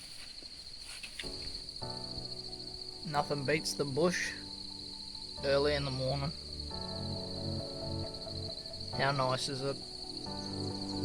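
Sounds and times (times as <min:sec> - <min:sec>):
insects trilling: 0:00.0 - 0:11.0
background music with held tones: 0:01.1 - 0:11.0.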